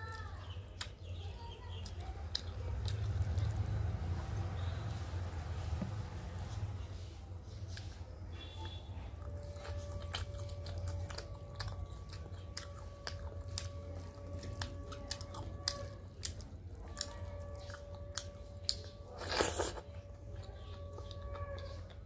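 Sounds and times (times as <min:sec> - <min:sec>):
chewing and wet mouth clicks: 0:00.0 - 0:05.0, 0:08.6 - 0:22.0
low hum: 0:02.7 - 0:22.0.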